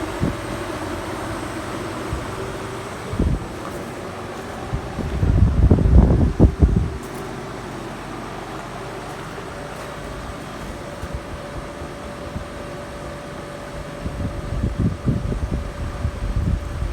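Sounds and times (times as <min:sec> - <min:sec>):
wind buffeting microphone: 0:00.0 - 0:07.6, 0:08.3 - 0:16.9
heat pump fan and compressor: 0:00.0 - 0:16.9.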